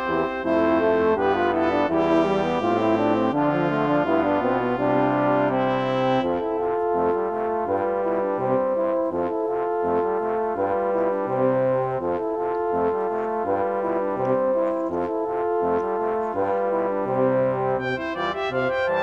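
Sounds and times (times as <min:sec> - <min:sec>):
bass line: 0:00.0 - 0:14.6, 0:15.5 - 0:19.0
brass playing held notes: 0:00.0 - 0:19.0.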